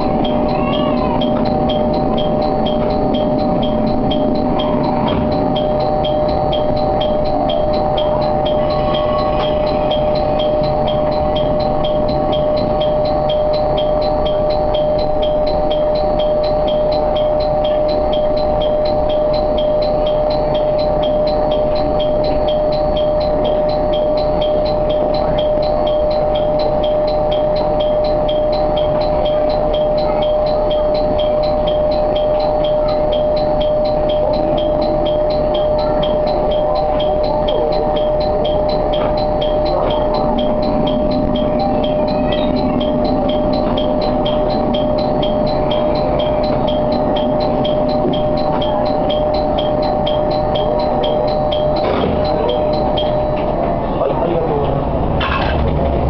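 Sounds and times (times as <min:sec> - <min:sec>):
diesel railcar running: 0:00.0 - 0:56.0
light regular ticking: 0:00.0 - 0:56.0.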